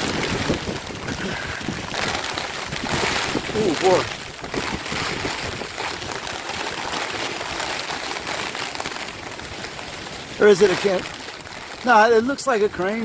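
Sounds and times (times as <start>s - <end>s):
hurricane wind: 0.0s - 13.0s
rain: 0.0s - 13.0s.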